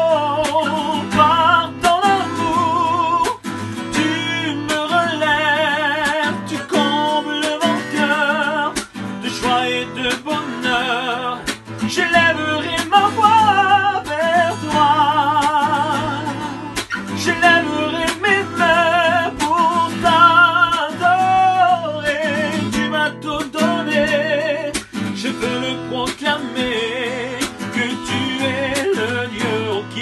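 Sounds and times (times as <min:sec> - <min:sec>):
man singing a hymn: 0:00.0 - 0:30.0
strummed acoustic guitar: 0:00.0 - 0:30.0.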